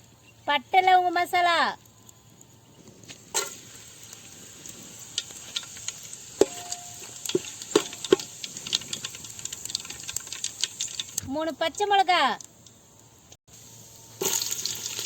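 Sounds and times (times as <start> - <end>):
spices sizzling in hot oil: 0.0 - 15.0
sharp crackles and clicks: 1.7 - 13.2, 14.2 - 15.0.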